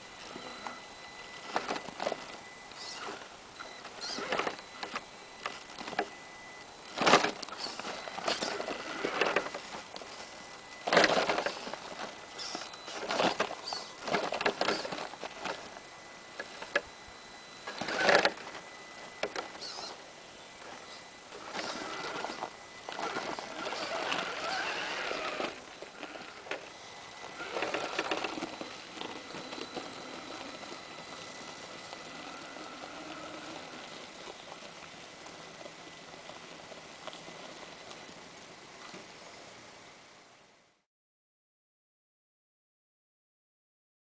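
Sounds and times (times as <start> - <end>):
electric drivetrain whirring: 0.0 - 40.8.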